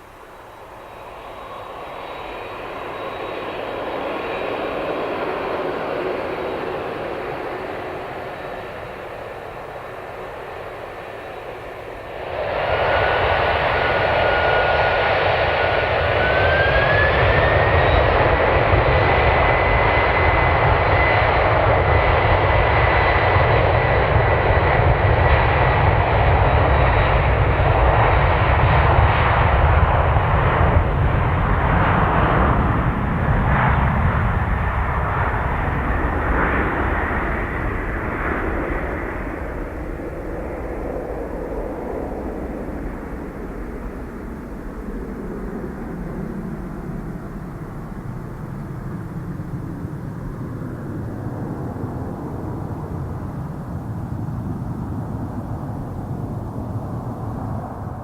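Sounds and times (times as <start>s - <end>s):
jet engines roaring on takeoff: 0.0s - 58.0s.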